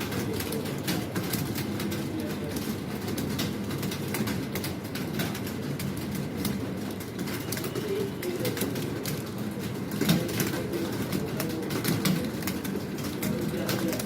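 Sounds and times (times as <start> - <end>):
keyboards typing clatter: 0.0 - 14.0.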